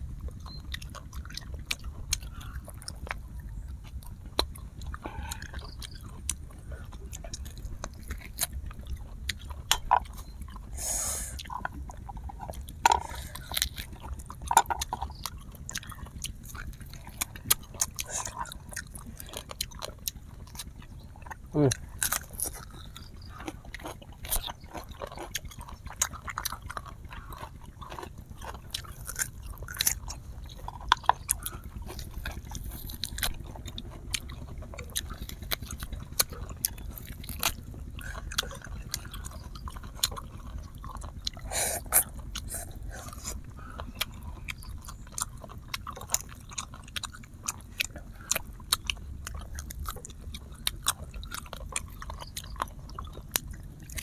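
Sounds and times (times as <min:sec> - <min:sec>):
chewing and biting food: 0:00.0 - 0:54.0
low steady rumble: 0:00.0 - 0:54.0.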